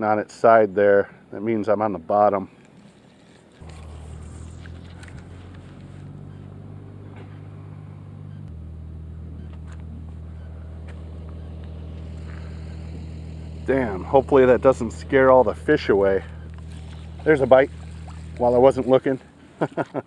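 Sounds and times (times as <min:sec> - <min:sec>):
engine idling: 0:03.6 - 0:19.6.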